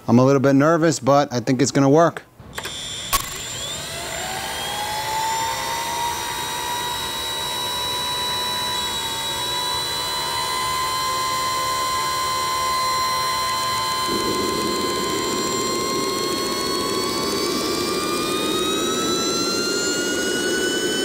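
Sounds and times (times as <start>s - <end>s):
turbojet engine whine: 2.4s - 21.0s.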